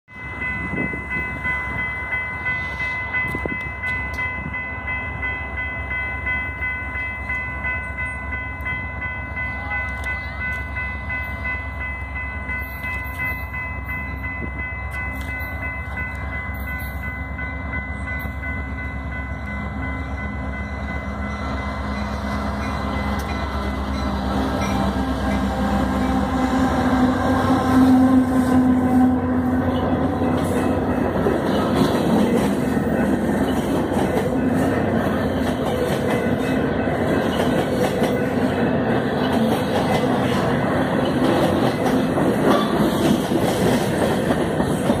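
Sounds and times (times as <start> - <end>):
diesel locomotive rumble: 0.1 - 45.0.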